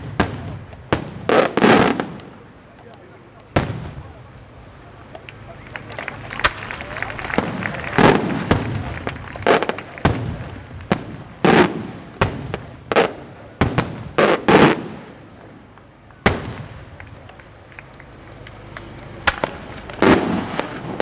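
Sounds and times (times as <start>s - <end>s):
firework shells bursting: 0.0s - 4.2s, 4.9s - 21.0s.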